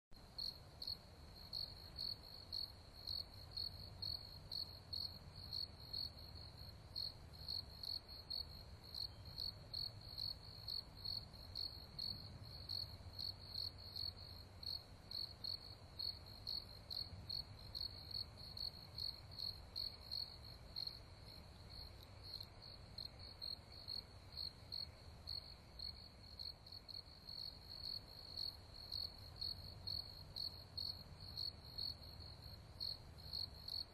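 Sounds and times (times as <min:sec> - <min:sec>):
cricket chirping: 0:00.2 - 0:33.9.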